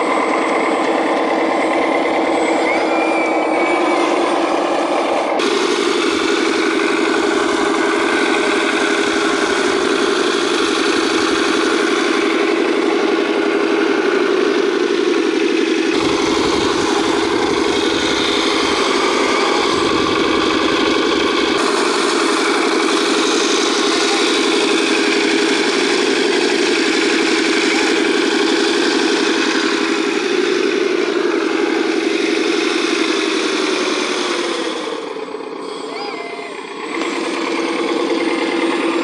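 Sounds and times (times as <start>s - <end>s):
model machine engine idling: 0.0s - 39.0s.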